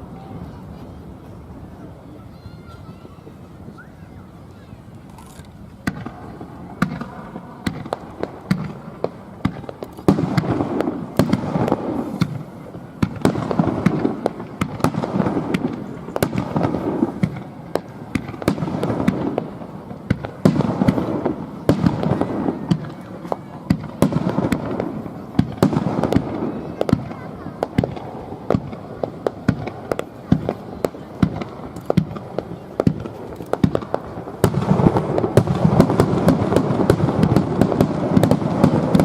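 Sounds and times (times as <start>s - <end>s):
rumble of firework bangs: 5.8s - 39.0s.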